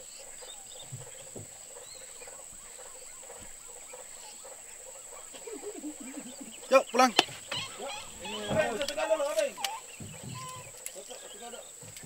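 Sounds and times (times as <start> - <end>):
animal chirps: 0.0 - 12.0
steady high-pitched whine: 0.0 - 12.0.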